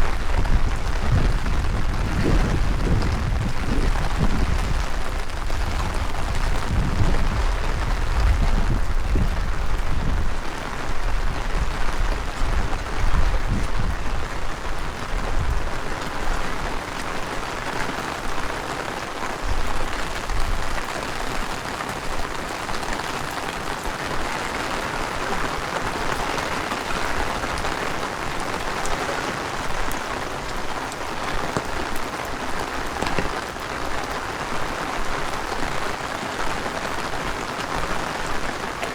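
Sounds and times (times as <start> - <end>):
wind buffeting microphone: 0.0 - 36.0
heavy rain falling: 0.0 - 38.9.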